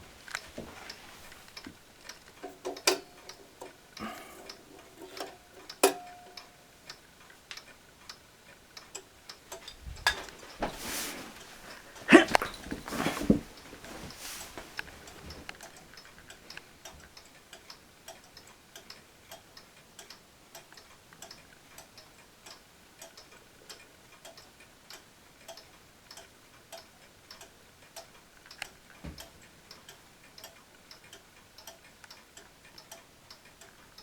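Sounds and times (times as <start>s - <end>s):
mechanical clock ticking: 0.0s - 10.6s, 15.1s - 34.0s.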